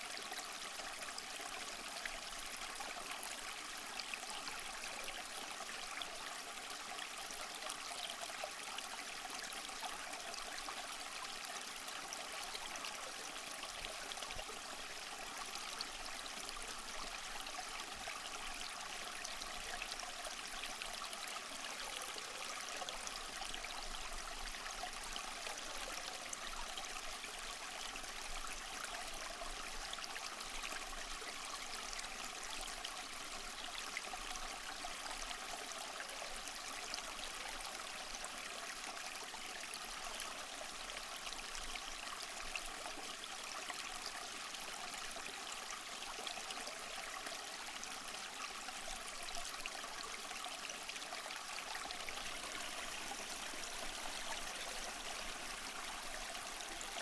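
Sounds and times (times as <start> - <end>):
small waterfall splashing over rocks: 0.0 - 57.0.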